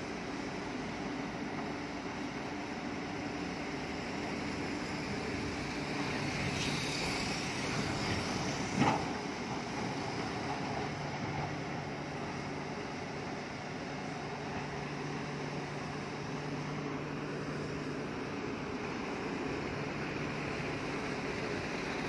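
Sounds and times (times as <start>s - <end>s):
heavy earthmoving machinery running: 0.0s - 22.0s.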